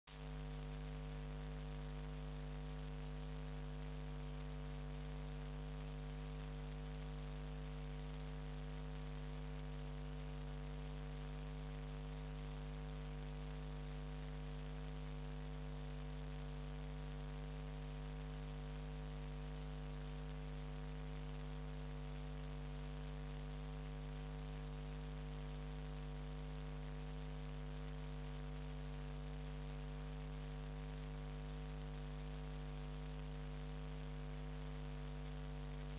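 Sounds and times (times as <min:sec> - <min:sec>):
electrical mains hum with hiss: 0:00.1 - 0:35.9.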